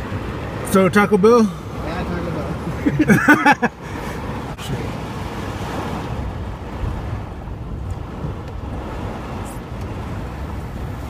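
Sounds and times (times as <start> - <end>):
car driving on wet road: 0.0 - 11.0.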